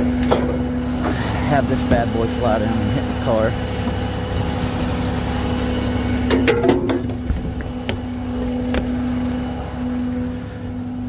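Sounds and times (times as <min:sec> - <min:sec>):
tow truck engine humming: 0:00.0 - 0:11.0.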